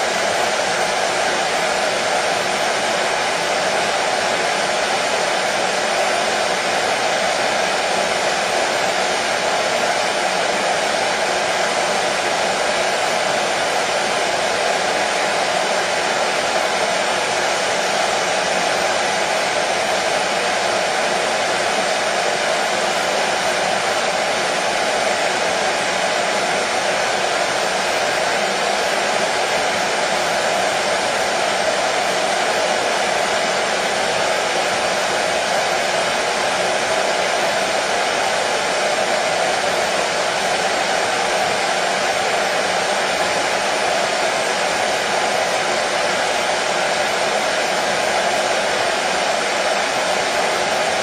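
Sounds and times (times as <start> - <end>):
hair dryer blowing: 0.0 - 51.0.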